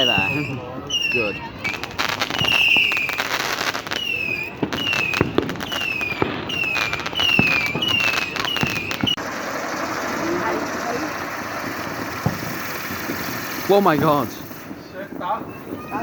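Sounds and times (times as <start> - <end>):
firework bangs and crackling: 0.0 - 16.0
firework whistles: 0.0 - 16.0.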